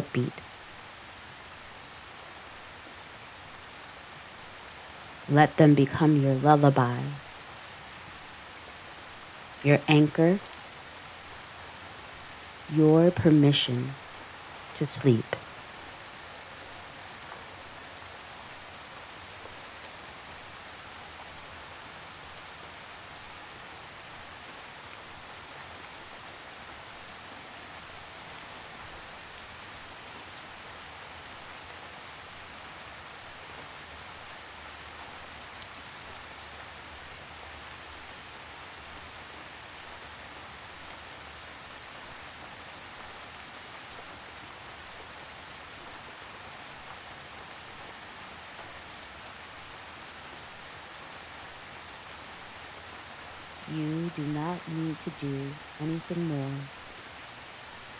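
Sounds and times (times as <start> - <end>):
gentle rain hissing: 0.0 - 57.9.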